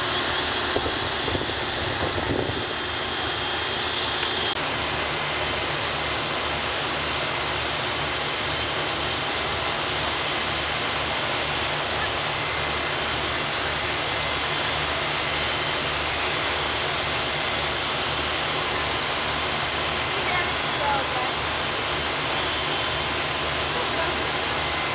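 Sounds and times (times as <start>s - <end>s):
fire engine pumps roaring: 0.0s - 24.9s.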